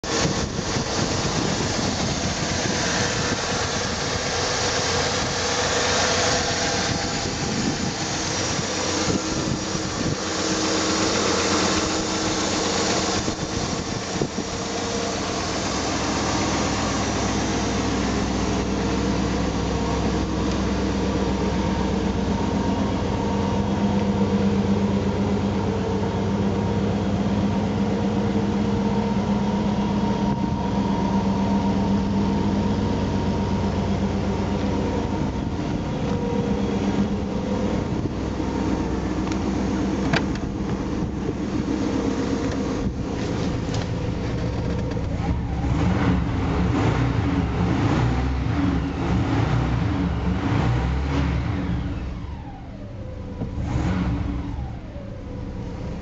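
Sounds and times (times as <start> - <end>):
car engine idling: 0.0 - 56.0
deep low engine note: 0.0 - 56.0
engine hiss: 0.0 - 56.0.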